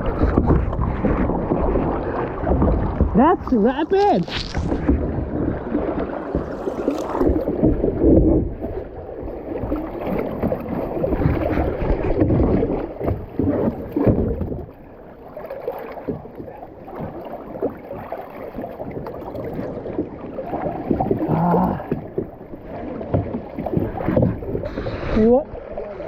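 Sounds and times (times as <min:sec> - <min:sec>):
river water rushing and splashing: 0:00.0 - 0:21.9.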